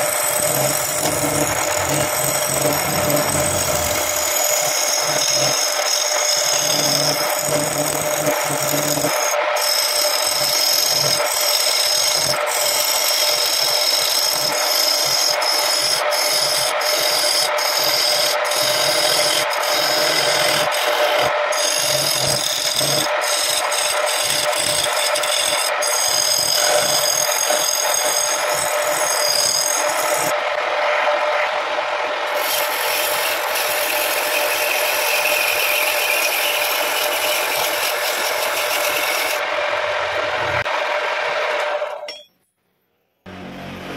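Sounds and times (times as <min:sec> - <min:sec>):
tool scraping spinning wood: 0:00.0 - 0:31.1, 0:32.3 - 0:42.2
wood lathe motor: 0:00.0 - 0:31.1, 0:32.3 - 0:39.5.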